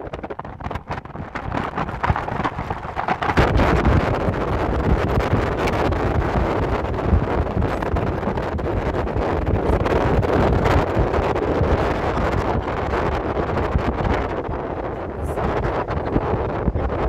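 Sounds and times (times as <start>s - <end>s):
car driving rumble: 0.0s - 17.0s
wind rushing over microphone: 0.0s - 17.0s.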